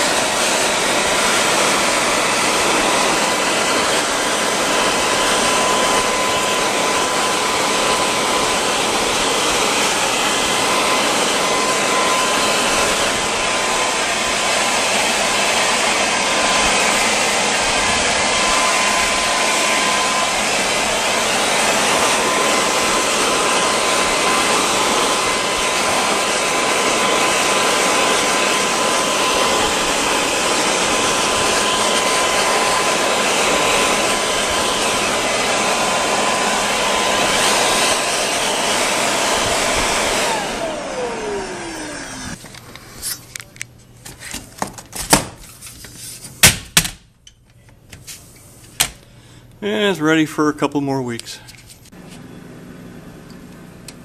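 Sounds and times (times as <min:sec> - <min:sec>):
electric blower whining: 0:00.0 - 0:43.2, 0:51.9 - 0:54.0.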